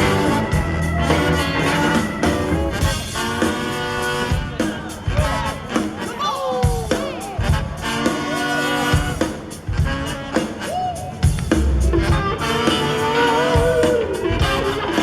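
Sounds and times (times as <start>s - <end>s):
soul-funk band playing: 0.0s - 15.0s.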